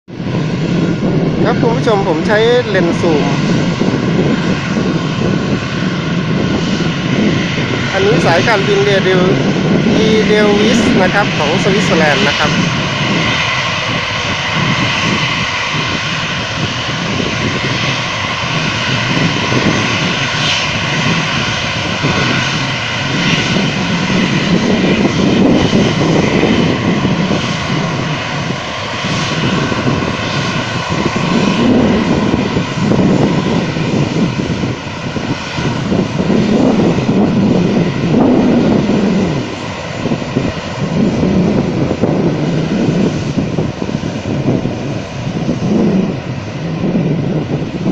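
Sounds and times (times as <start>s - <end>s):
jet engine whine: 0.0s - 47.9s
uneven low rumble: 0.0s - 47.9s.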